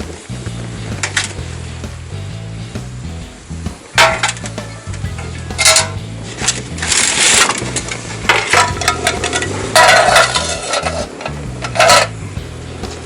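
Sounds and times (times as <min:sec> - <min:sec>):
background music with bass beat: 0:00.0 - 0:13.0.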